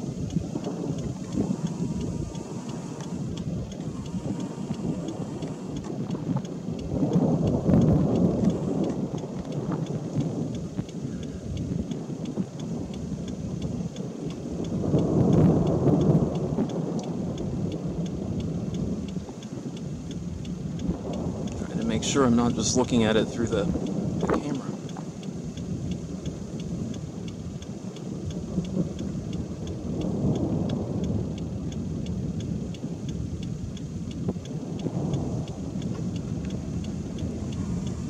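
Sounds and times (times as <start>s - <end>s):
low rumbling thunder: 0.0s - 38.0s
steady storm rush: 0.0s - 38.0s.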